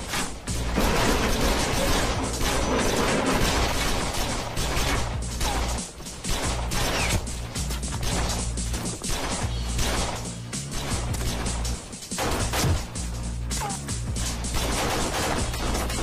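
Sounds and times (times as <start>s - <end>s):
dramatic music: 0.0s - 16.0s
gunshots: 0.0s - 16.0s.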